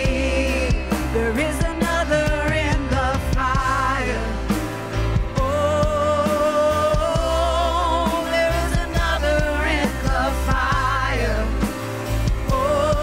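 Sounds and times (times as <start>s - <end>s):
live band playing slow song: 0.0s - 13.0s
singers holding long notes: 0.0s - 13.0s.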